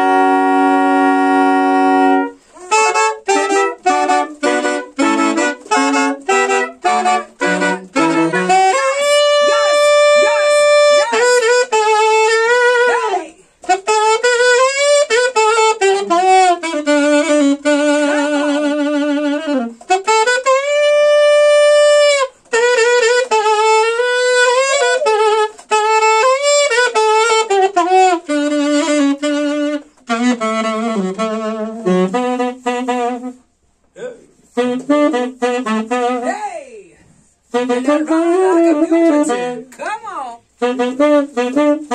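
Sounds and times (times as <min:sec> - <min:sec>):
saxophone section playing reggae: 0:00.0 - 0:41.9.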